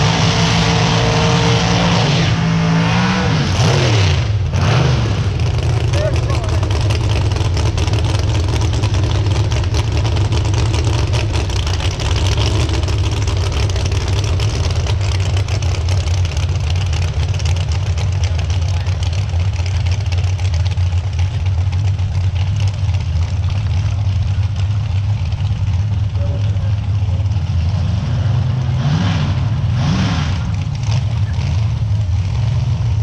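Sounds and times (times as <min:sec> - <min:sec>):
engine idling: 0:04.2 - 0:33.0.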